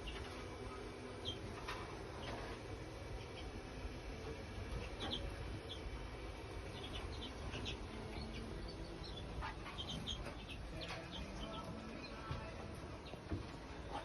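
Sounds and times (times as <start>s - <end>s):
small birds chirping: 0.0s - 3.8s, 4.6s - 14.0s
low steady hum: 0.0s - 14.0s.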